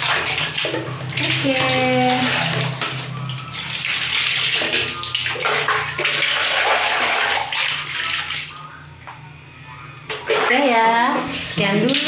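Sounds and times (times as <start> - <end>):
water pouring and splashing: 0.0 - 8.7, 10.1 - 12.0.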